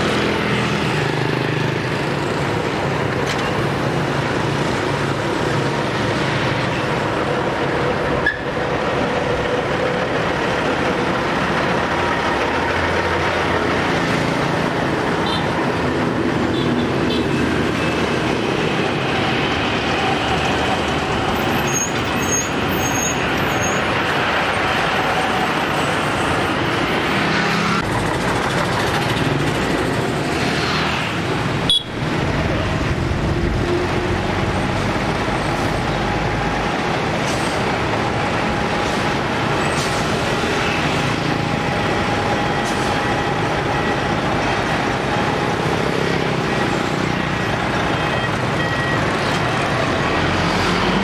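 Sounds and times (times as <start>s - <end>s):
motorbikes passing: 0.0s - 39.6s, 40.2s - 51.0s
trucks passing: 0.0s - 51.0s
tyres on the road: 0.0s - 51.0s.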